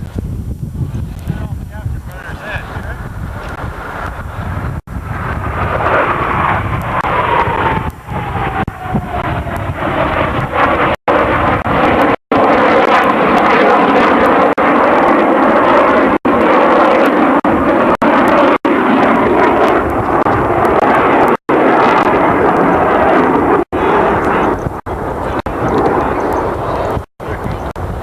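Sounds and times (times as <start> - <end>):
jet aircraft noise: 0.0 - 28.0.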